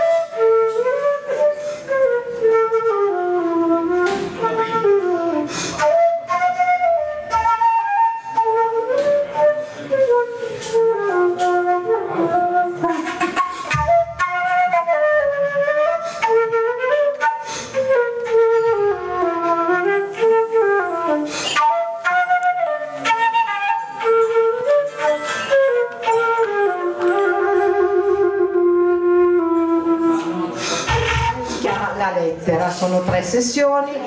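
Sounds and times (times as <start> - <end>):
flute melody: 0.0 - 32.0.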